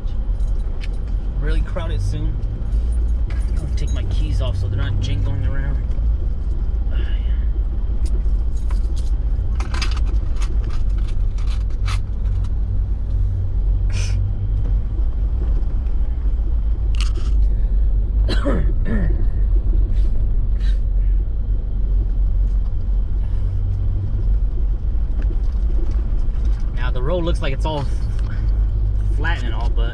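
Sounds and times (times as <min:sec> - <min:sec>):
truck cabin engine and tyre drone: 0:00.0 - 0:29.9.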